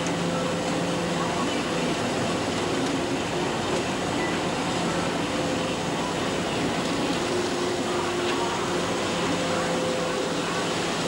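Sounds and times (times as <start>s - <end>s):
ship machinery droning: 0.0s - 11.0s.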